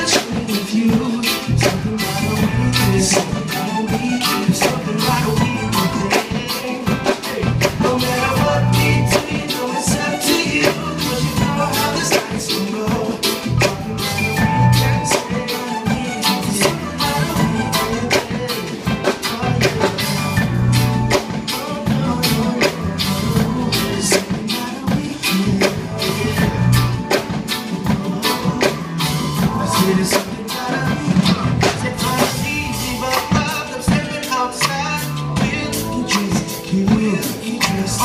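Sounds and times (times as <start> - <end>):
drum kit steady beat: 0.0 - 38.0
reggae band playing: 0.0 - 38.0.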